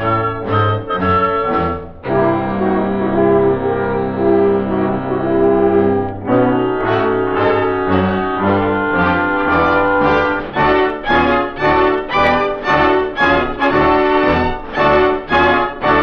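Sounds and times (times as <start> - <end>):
orchestral brass music: 0.0 - 16.0.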